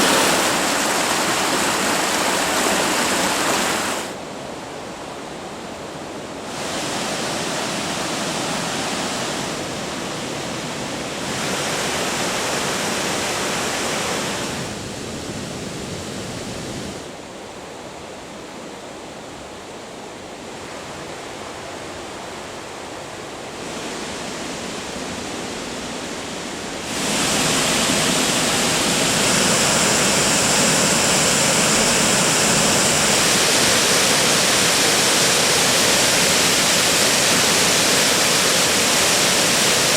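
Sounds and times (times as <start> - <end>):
rushing water of waterfalls: 0.0 - 17.2, 19.5 - 39.9.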